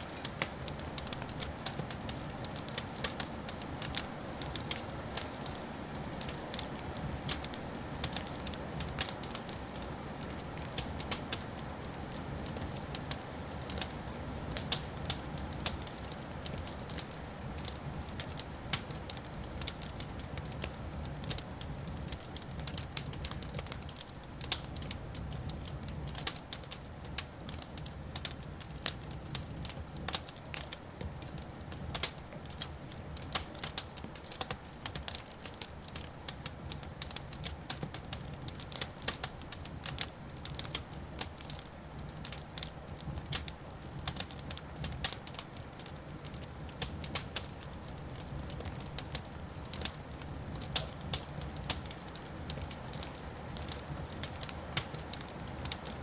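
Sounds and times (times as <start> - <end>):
fireplace fire crackling and popping: 0.0 - 56.0.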